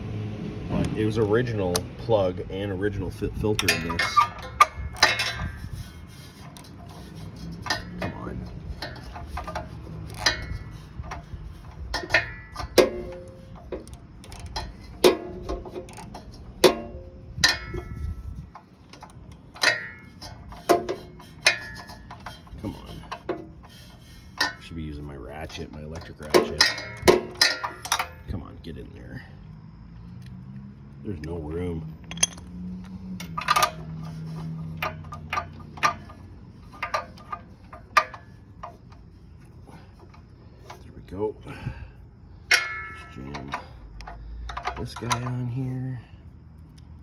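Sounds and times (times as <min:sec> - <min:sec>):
ratchet and socket clicking: 0:00.8 - 0:24.7, 0:25.5 - 0:28.3, 0:32.0 - 0:40.8, 0:42.4 - 0:45.8
ringing metal clicks: 0:00.8 - 0:28.8, 0:31.0 - 0:41.6, 0:42.3 - 0:46.0.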